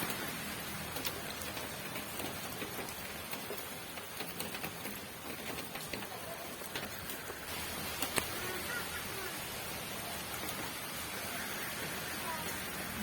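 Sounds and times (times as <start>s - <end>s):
raindrops tapping nearby: 0.0s - 13.0s
steady rain falling: 0.0s - 13.0s.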